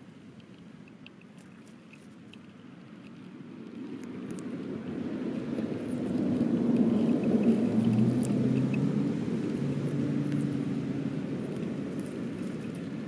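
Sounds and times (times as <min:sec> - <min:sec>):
engine rumble with hum: 0:02.5 - 0:13.0.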